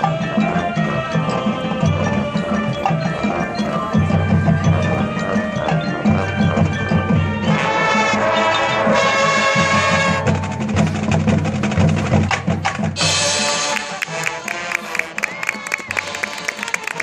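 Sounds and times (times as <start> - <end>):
mallet percussion: 0.0 - 17.0
marching band playing: 0.0 - 17.0.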